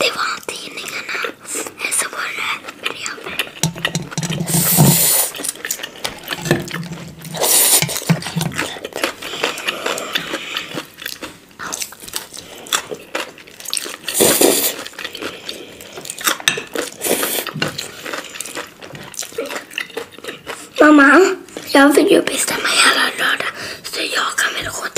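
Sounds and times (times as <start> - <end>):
noodles slurped and chewed: 0.0 - 24.9.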